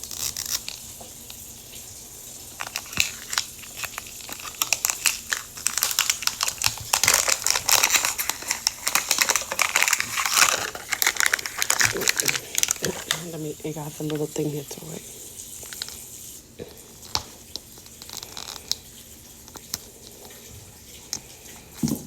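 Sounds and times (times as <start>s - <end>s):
crinkly plastic packaging crackling: 0.0s - 22.0s.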